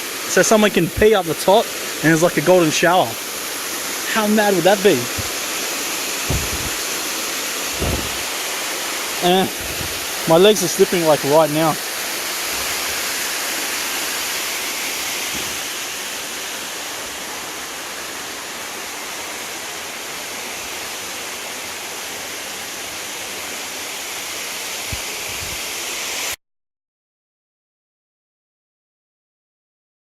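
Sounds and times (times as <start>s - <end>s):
small waterfall rushing: 0.0s - 26.4s.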